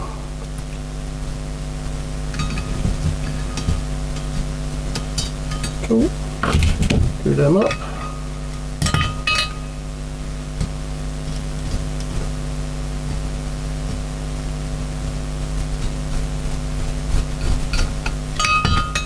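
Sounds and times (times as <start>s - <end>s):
electrical hum with hiss: 0.0s - 19.0s.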